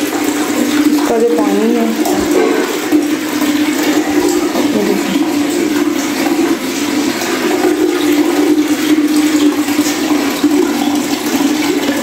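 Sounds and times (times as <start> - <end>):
waste water rushing into drain: 0.0 - 12.0.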